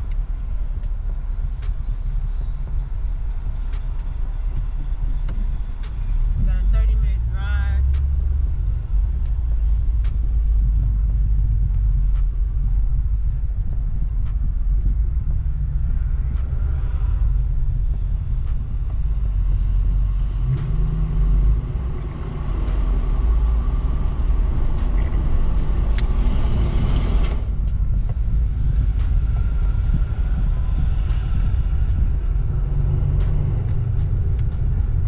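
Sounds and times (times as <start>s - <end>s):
road and engine rumble in cab: 0.0s - 35.0s.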